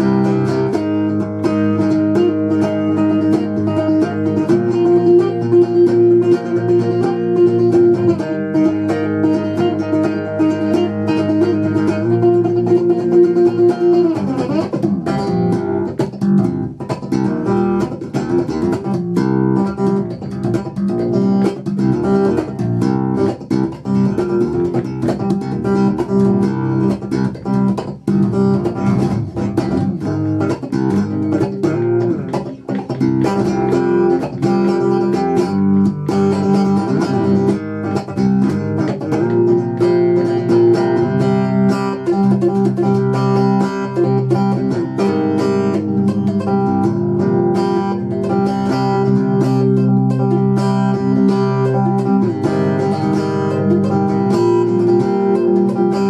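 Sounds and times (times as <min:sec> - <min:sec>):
electric bass plucked with fingers: 0:00.0 - 0:56.0.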